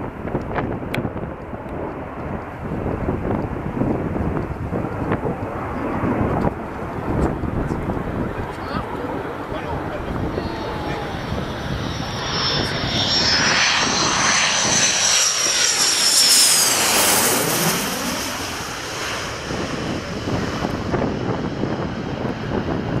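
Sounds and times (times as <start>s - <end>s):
high turbine whine: 0.0s - 23.0s
jet passing overhead: 0.0s - 23.0s.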